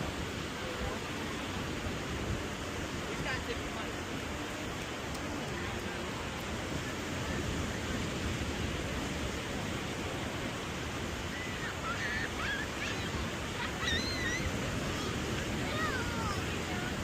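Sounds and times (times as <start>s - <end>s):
rushing outdoor noise: 0.0s - 17.0s.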